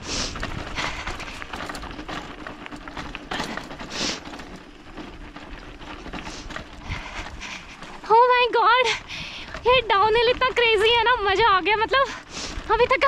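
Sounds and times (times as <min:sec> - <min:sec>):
mountain bike rattling over stones: 0:00.0 - 0:13.0.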